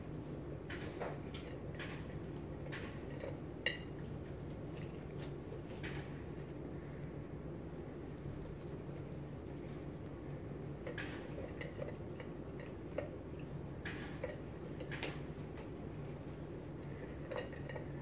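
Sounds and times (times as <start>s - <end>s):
steady low hum: 0.0s - 18.0s
cat eating from metal bowl: 1.1s - 6.0s, 7.7s - 18.0s.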